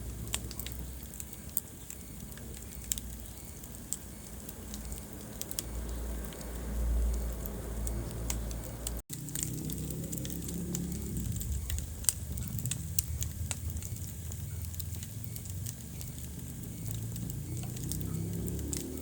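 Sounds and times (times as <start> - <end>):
flames rumbling: 0.0 - 19.0
wood fire crackling and popping: 0.0 - 19.0.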